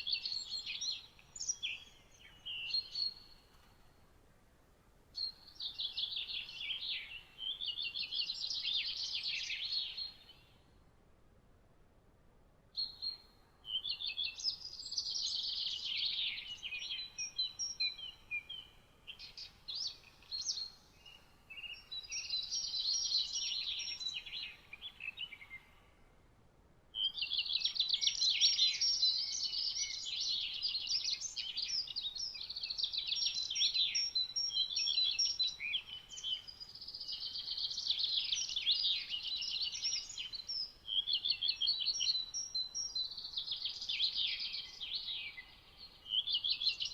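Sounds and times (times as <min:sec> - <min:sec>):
songbirds chirping and trilling: 0:00.0 - 0:11.0, 0:12.7 - 0:26.3, 0:26.9 - 0:46.9.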